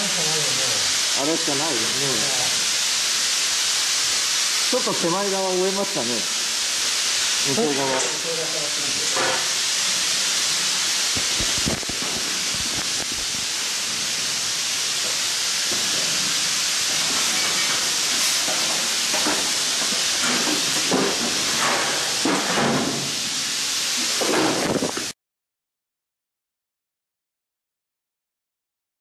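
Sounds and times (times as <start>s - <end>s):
steady hiss: 0.0s - 25.2s.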